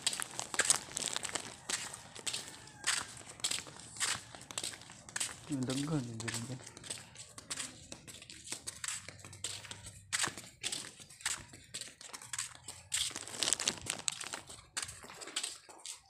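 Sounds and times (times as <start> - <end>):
footsteps crunching on gritty concrete: 0.0 - 16.0.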